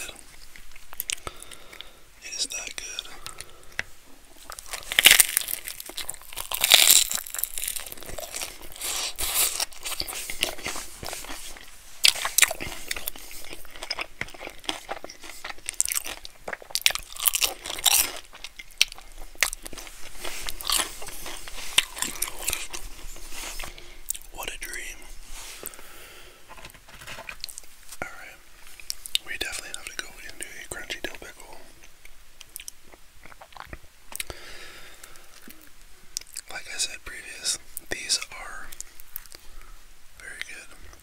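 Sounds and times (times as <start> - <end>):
person chewing crunchy food: 0.0 - 2.0, 2.6 - 24.9, 25.5 - 36.5, 38.7 - 41.0.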